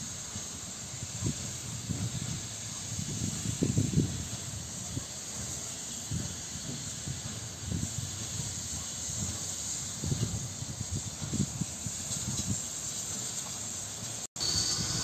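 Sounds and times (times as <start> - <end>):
locomotive rumbling puffs: 0.0 - 15.0
steam hissing: 0.0 - 15.0.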